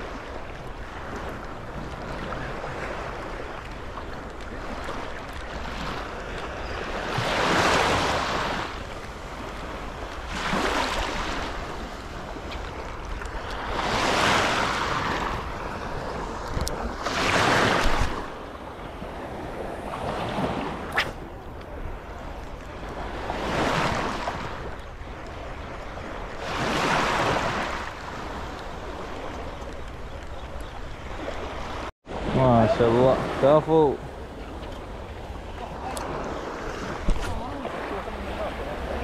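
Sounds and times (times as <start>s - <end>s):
small waves washing: 0.0s - 39.0s.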